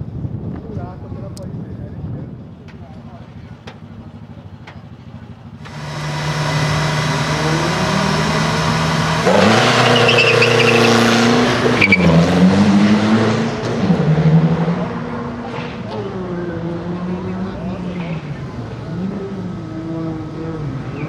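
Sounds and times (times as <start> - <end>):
race car engine revving: 3.4 - 21.0.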